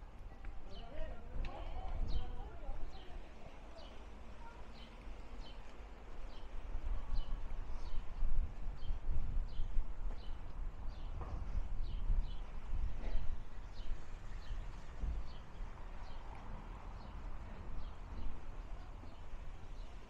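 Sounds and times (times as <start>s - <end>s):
wind rumble on microphone: 0.0s - 4.3s, 5.1s - 20.0s.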